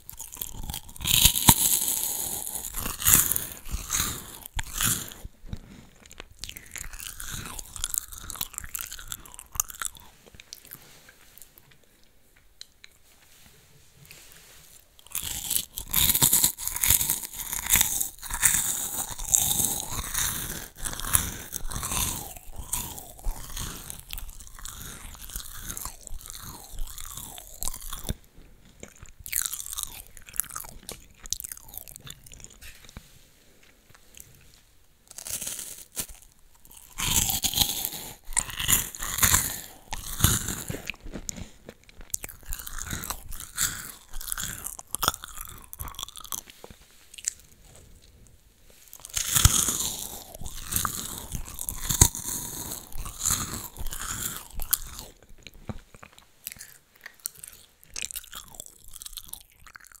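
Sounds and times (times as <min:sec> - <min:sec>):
chewing: 0:00.0 - 0:13.4, 0:14.0 - 1:00.0.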